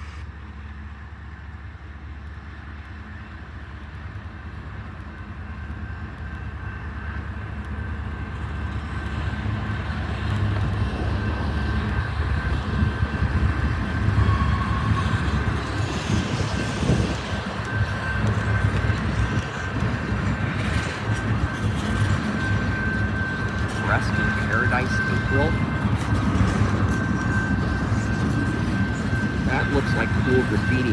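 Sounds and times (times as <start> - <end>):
freight train rumbling past: 0.0 - 30.9
high steady whine: 0.0 - 30.9.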